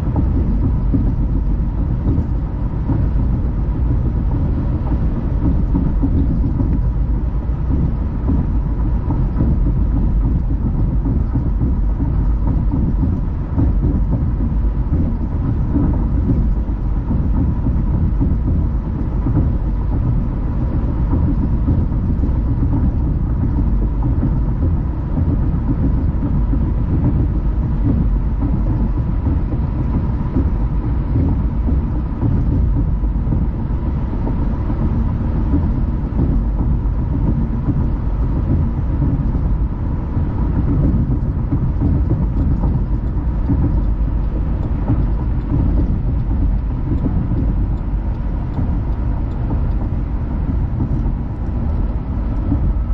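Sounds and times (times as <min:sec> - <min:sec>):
car engine noise: 0:00.0 - 0:52.9
car road and tyre rumble: 0:00.0 - 0:52.9.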